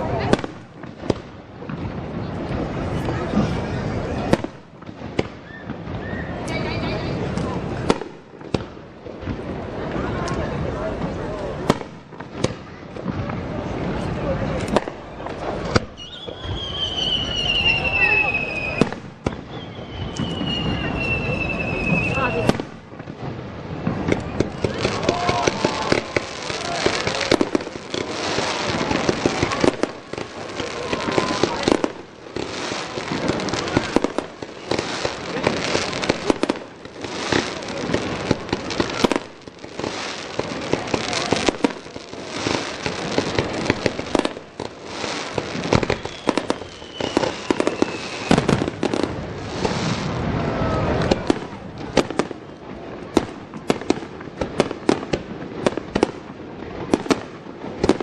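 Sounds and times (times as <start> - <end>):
fireworks whistling: 0.0 - 10.1, 10.9 - 58.0
fireworks bangs and crackling: 0.0 - 58.0.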